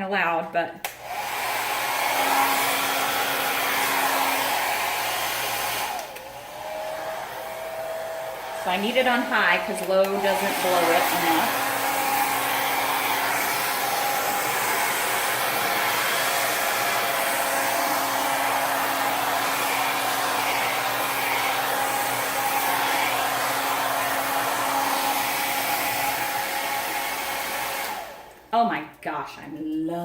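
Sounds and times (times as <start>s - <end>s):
hair dryer running: 0.8s - 28.5s.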